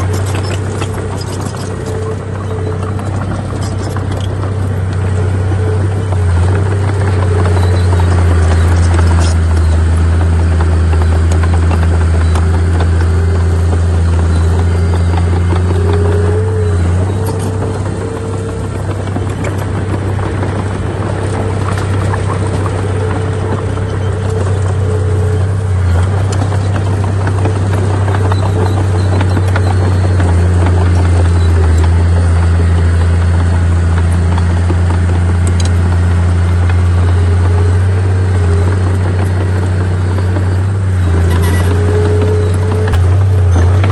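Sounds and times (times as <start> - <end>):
bulldozer diesel engine droning: 0.0 - 43.9
faint whine: 0.0 - 43.9.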